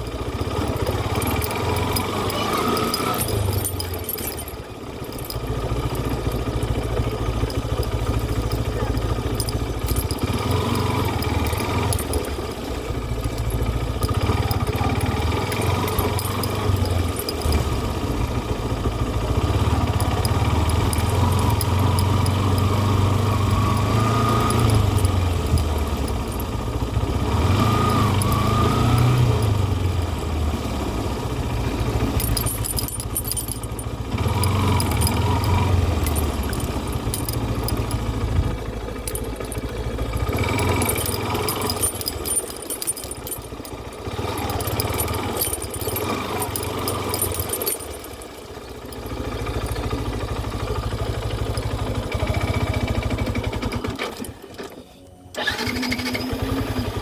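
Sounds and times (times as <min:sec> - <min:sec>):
engine revving: 0:00.0 - 0:54.4, 0:55.3 - 0:57.0.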